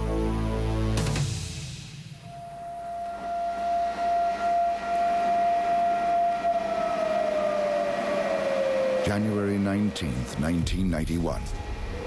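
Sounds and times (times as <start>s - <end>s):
air-raid siren wailing: 2.2s - 12.0s.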